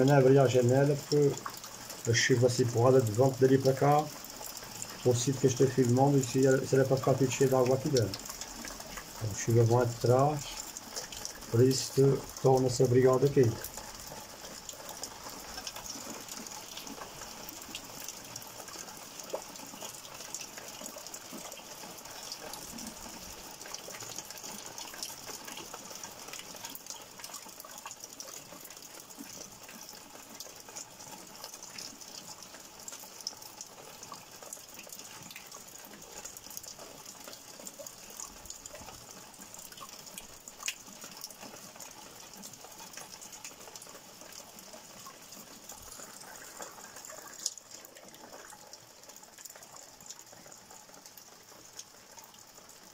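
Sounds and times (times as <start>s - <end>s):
rain falling: 0.0s - 52.9s
water drips ticking: 0.0s - 52.9s.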